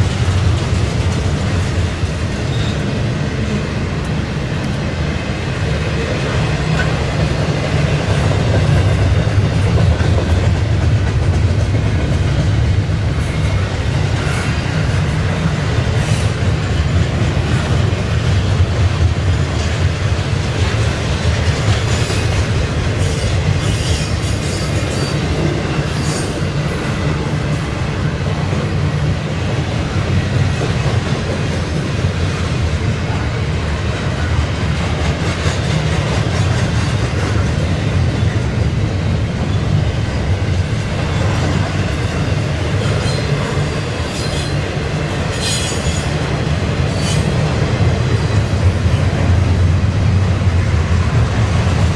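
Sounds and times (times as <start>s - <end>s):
rail cars rumbling and rattling: 0.0s - 51.9s.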